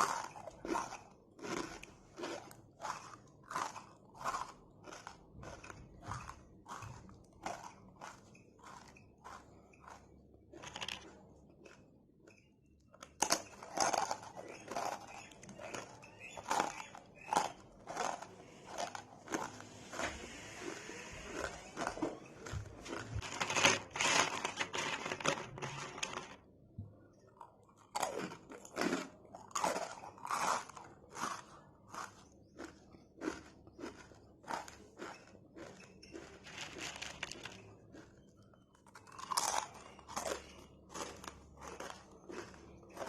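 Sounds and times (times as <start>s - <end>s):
person crunching crisp snack: 0.0s - 11.9s, 13.0s - 26.4s, 27.3s - 43.0s.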